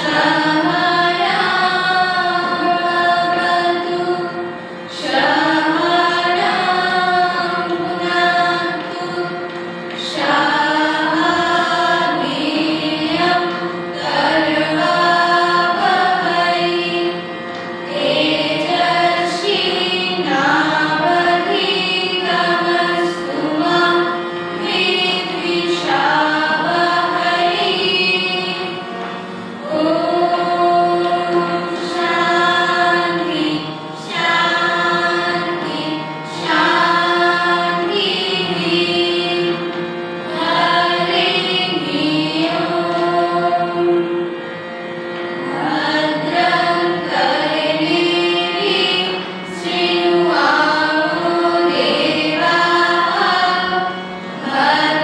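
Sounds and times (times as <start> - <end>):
young voices singing in unison: 0.0 - 44.4, 45.4 - 55.0
harmonium: 0.0 - 55.0.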